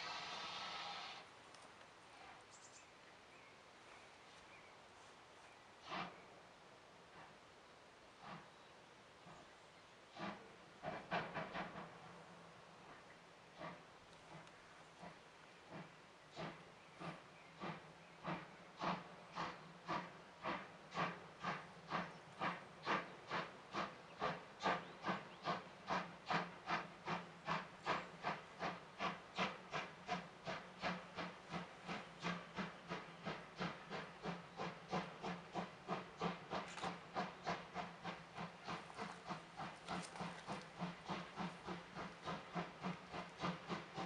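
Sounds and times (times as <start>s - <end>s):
steam locomotive chuffing: 0.0s - 1.3s, 5.8s - 6.4s, 8.1s - 44.0s.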